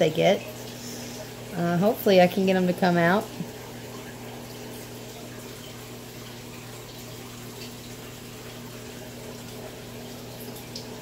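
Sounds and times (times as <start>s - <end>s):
low hum of circulation equipment: 0.0s - 11.0s
running water: 0.0s - 11.0s.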